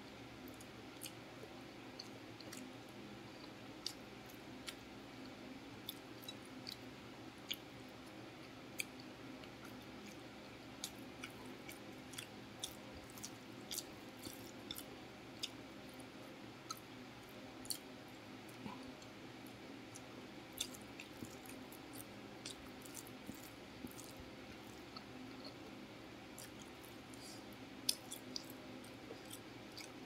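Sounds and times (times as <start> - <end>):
faint background hum: 0.0 - 30.0
person chewing food: 0.4 - 30.0.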